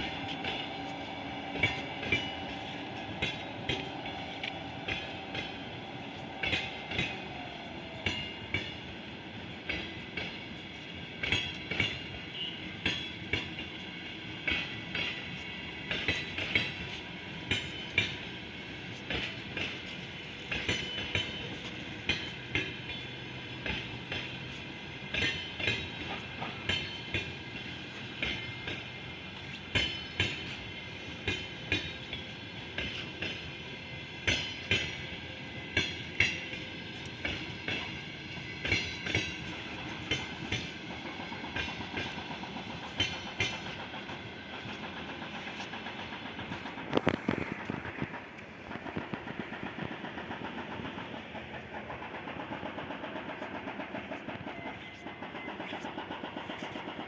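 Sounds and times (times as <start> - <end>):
train rolling rumble: 0.0 - 57.0
train wheels clickety-clack: 0.0 - 57.0.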